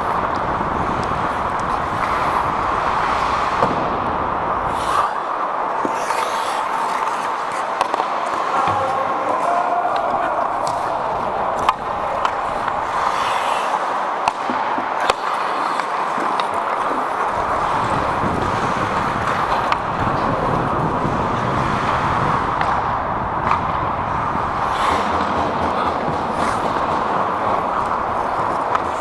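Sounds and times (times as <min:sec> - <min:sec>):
skate blades scraping ice: 0:00.0 - 0:03.9, 0:04.6 - 0:29.0
hockey sticks and puck clacking: 0:00.0 - 0:29.0.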